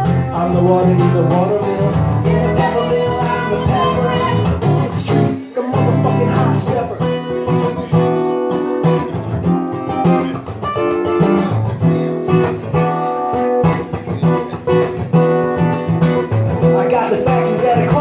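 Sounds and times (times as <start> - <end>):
acoustic guitar strummed and picked: 0.0 - 18.0.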